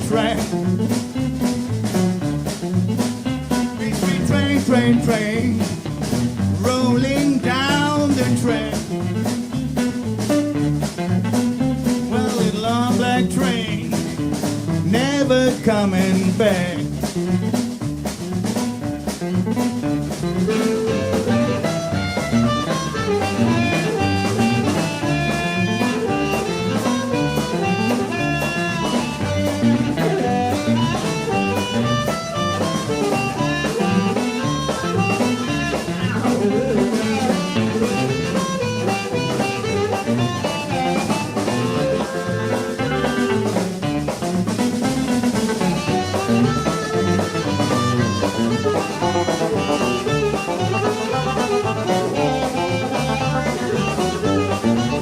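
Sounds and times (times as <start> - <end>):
drum kit steady beat: 0.0 - 55.0
live blues band playing: 0.0 - 55.0.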